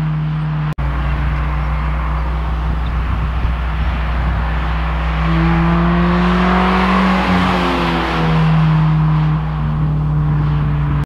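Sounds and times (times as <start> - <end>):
car exhaust driving past: 0.0 - 11.0.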